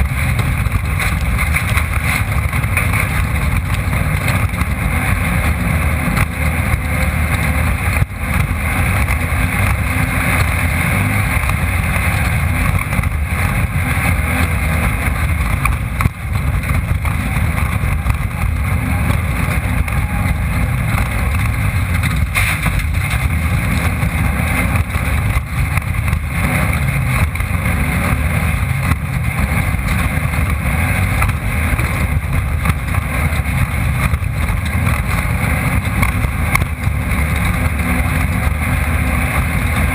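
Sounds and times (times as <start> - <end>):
chassis rattling: 0.0 - 39.9
race car engine running hard: 0.0 - 39.9.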